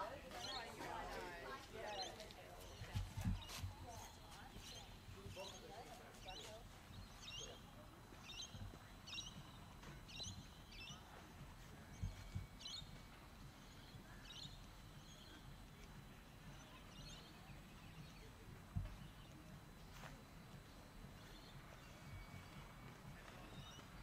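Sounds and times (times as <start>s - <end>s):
bird chirping: 1.7s - 24.0s
soft low thumps: 2.6s - 24.0s.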